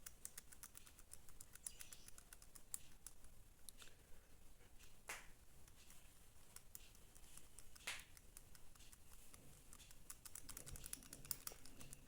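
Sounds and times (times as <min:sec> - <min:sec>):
small parts clicking: 0:00.0 - 0:03.9, 0:05.7 - 0:12.0.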